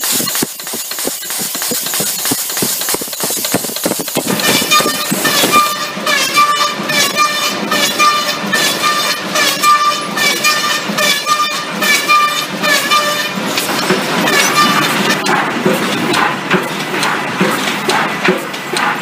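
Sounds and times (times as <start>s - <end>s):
conveyor clatter: 0.0s - 19.0s.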